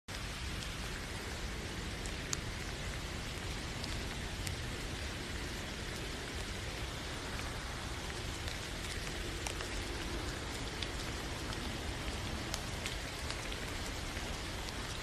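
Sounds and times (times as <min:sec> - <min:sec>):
steady rain hissing: 0:00.1 - 0:15.0.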